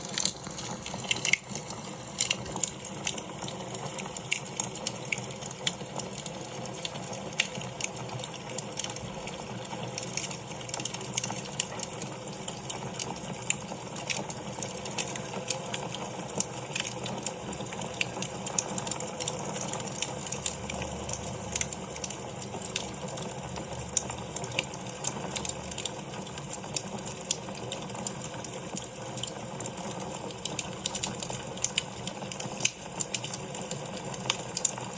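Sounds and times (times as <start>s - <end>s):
wood fire crackling and popping: 0.0s - 34.8s.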